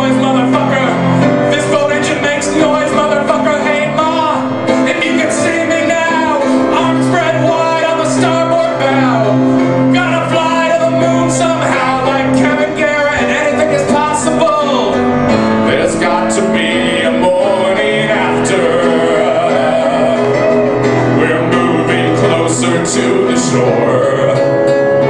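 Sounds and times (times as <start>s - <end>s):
man singing: 0.0s - 25.0s
piano chords: 0.0s - 25.0s.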